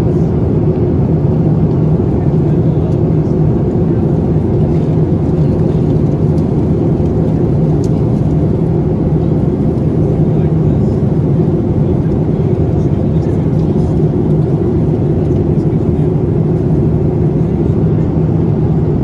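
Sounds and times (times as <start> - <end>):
airliner cabin drone: 0.0 - 19.0.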